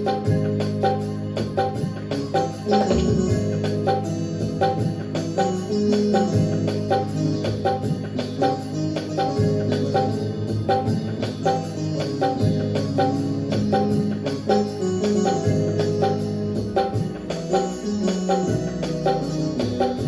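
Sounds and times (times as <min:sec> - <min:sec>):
keyboard melody and chords: 0:00.0 - 0:20.0
steady percussion beat: 0:00.0 - 0:20.0.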